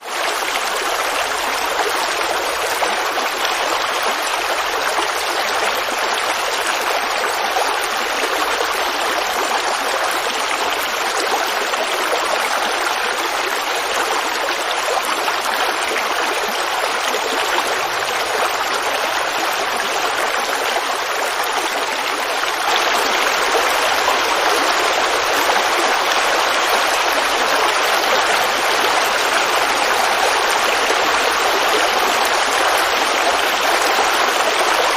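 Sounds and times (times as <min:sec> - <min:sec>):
creek water babbling: 0:00.0 - 0:34.9.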